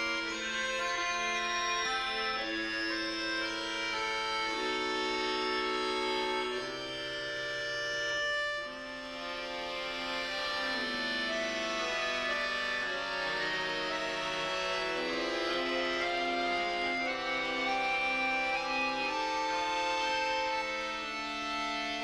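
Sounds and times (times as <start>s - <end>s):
accordion duet: 0.0s - 22.0s.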